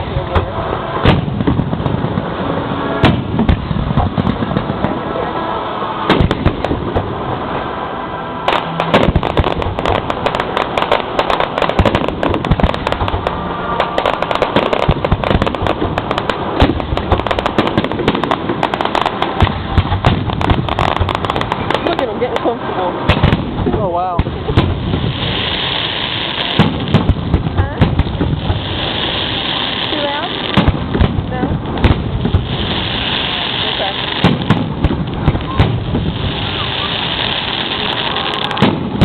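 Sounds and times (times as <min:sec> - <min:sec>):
fireworks booming and crackling: 0:00.0 - 0:39.0.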